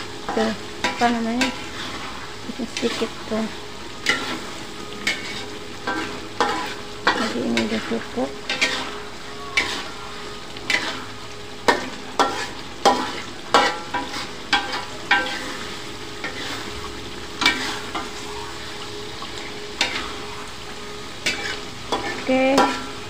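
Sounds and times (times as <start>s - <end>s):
sauce sizzling: 0.0s - 23.0s
metal ladle scraping a wok: 0.2s - 18.3s, 19.3s - 23.0s.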